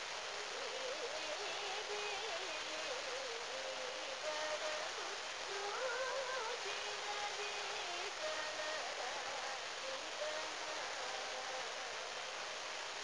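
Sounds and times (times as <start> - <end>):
old radio recording hiss: 0.0 - 13.0
person singing ornamented melody: 0.0 - 13.0.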